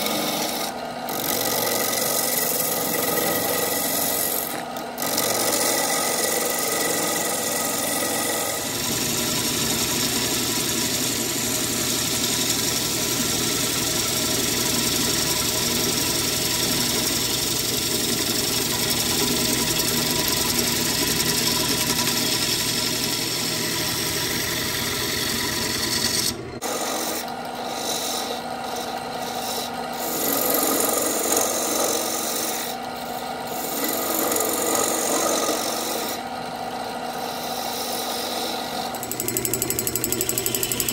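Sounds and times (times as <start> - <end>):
gouge shearing wood: 0.0 - 32.8, 33.5 - 36.2
lathe motor hum: 0.0 - 40.9.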